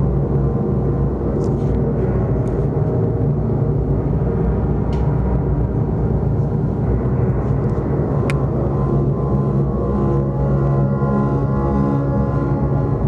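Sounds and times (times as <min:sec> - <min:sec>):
electronic drone of layered tones: 0:00.0 - 0:13.0.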